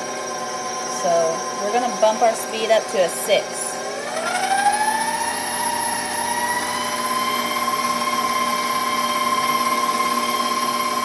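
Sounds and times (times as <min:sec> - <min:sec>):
stand mixer motor whining: 0:00.0 - 0:11.0
whisk beating icing in bowl: 0:00.1 - 0:11.0.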